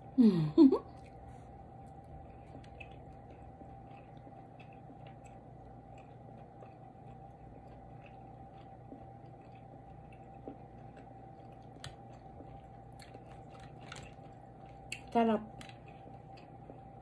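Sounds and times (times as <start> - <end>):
steady background hum: 0.0 - 17.0
close-mouthed chewing: 0.9 - 17.0.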